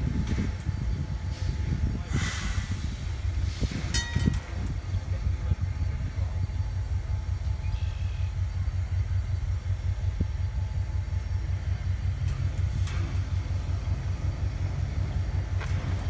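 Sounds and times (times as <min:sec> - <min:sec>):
streetcar rumbling on track: 0:00.0 - 0:16.0.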